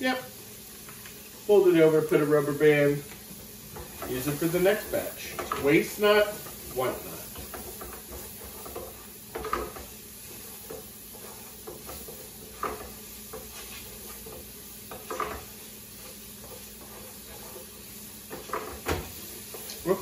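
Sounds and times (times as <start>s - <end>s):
low sizzle from pan: 0.0s - 20.0s
wooden spoon scraping a skillet: 0.6s - 20.0s.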